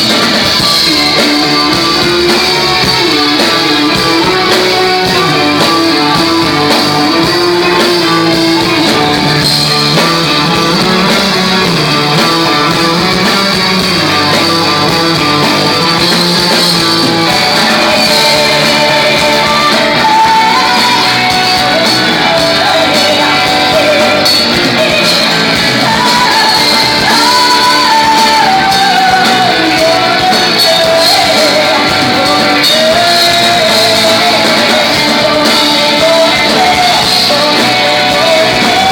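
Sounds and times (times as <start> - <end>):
person singing: 0.0 - 38.9
rock band playing live: 0.0 - 38.9.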